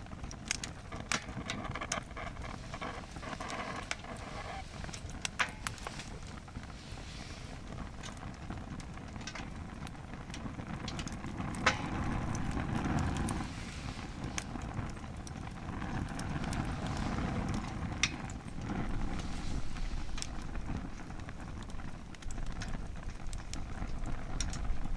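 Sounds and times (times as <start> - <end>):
fire crackling and popping: 0.0 - 24.9
roar of flames: 0.0 - 24.9.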